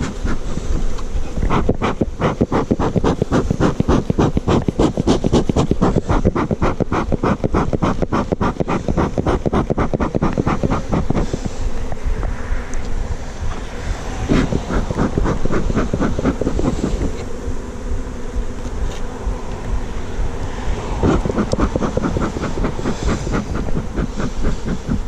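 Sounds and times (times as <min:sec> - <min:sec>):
rapid rustling and scraping: 0:00.0 - 0:12.1, 0:12.8 - 0:17.4, 0:21.0 - 0:25.0.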